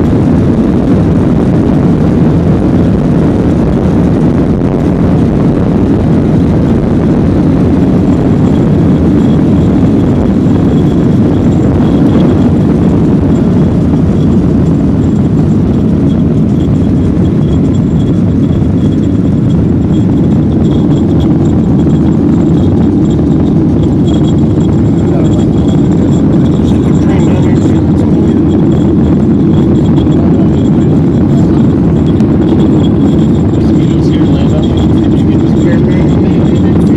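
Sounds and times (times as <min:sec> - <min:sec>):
jet engines rumbling in cabin: 0:00.0 - 0:36.9.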